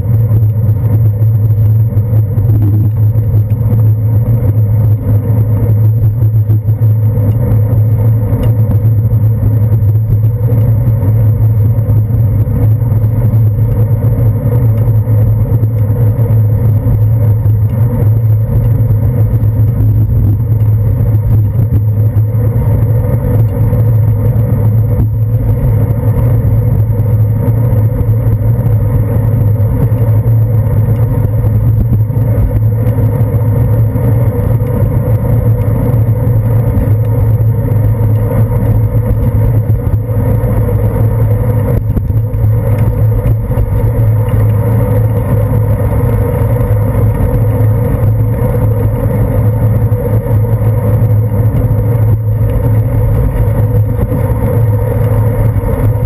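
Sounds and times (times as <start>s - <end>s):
constant low hum: 0.0s - 56.0s
wind and road vibration rumble: 0.0s - 56.0s.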